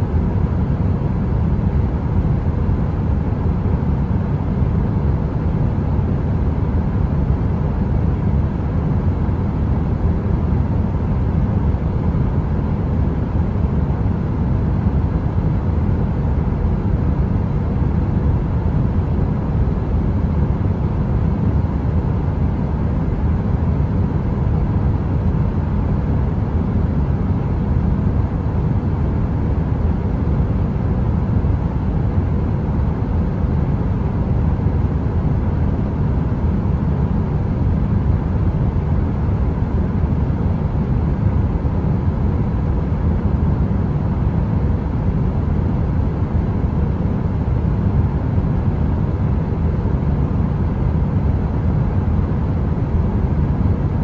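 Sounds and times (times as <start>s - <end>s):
heater deep rumbling hum: 0.0s - 54.0s.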